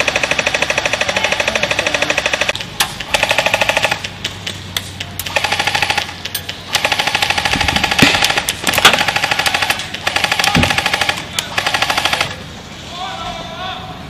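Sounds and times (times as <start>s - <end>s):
airsoft guns firing bursts: 0.0s - 12.4s.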